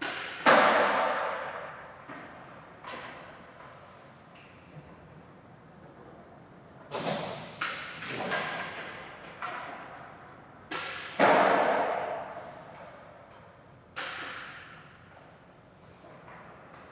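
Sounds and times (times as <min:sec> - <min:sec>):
skateboard clacks and thuds: 0:00.0 - 0:06.2, 0:06.8 - 0:16.9.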